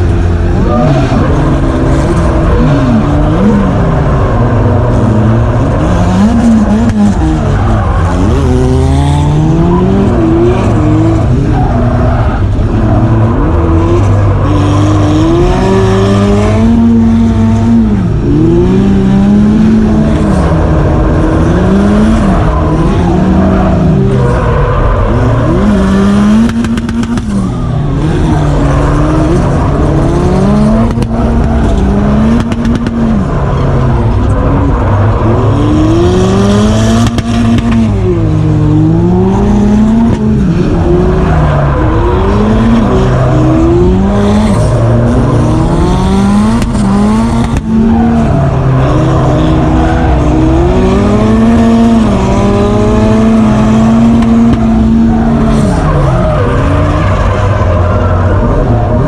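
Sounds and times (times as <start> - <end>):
car engine revving hard: 0.0 - 59.0.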